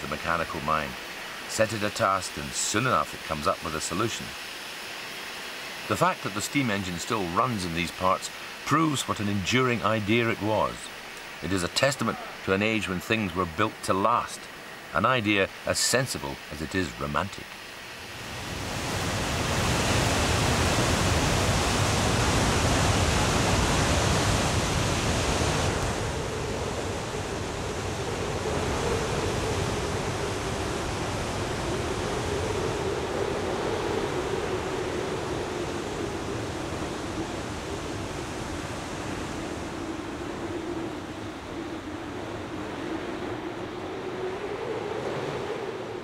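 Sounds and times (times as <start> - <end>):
waterfall roaring: 0.0 - 42.7.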